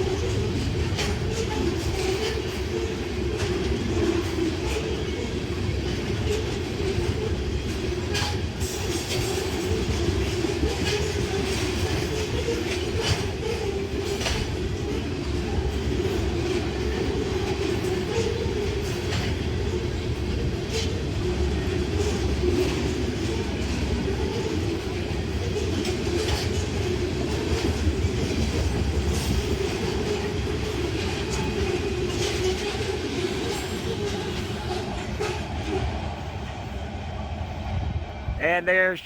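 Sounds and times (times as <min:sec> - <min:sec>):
wheels clacking: 0:00.0 - 0:36.1
train wheels rumbling on rails: 0:00.0 - 0:39.0.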